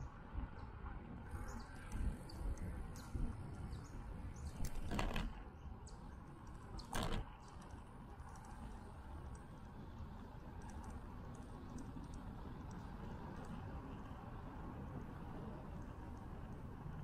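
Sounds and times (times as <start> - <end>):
wind and tyre rumble: 0.0 - 17.0.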